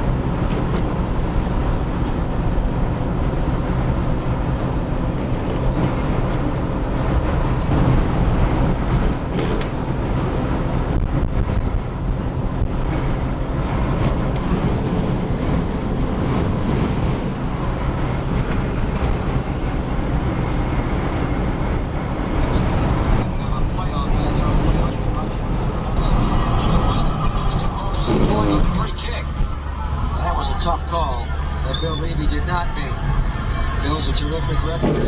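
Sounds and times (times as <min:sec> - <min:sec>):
low engine drone: 0:00.0 - 0:35.0
road and wind noise in car: 0:00.0 - 0:35.0.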